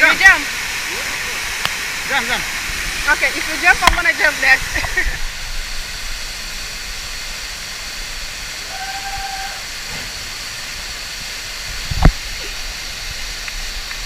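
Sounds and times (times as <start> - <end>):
steady rushing hiss: 0.0 - 14.0.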